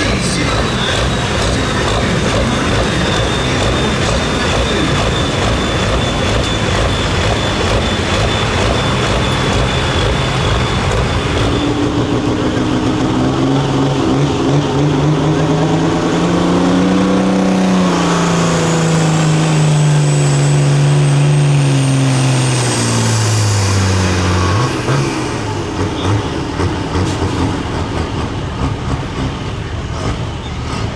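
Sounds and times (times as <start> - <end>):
engine running hard under load: 0.0 - 30.9.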